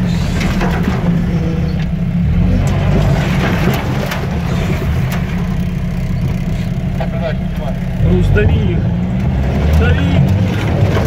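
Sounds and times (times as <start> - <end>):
vehicle engine under load: 0.0 - 11.0.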